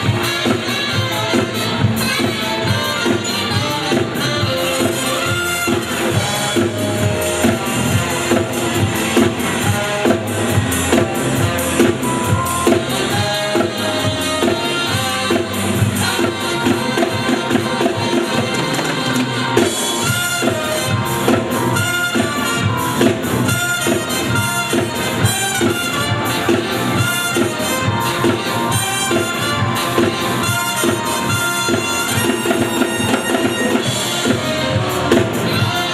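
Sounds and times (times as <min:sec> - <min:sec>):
fast drum beat: 0:00.0 - 0:35.9
upbeat band music: 0:00.0 - 0:35.9.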